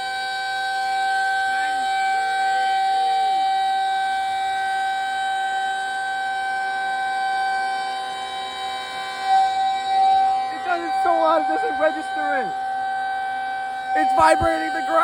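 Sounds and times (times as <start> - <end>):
tornado siren steady pitch: 0.0 - 15.0.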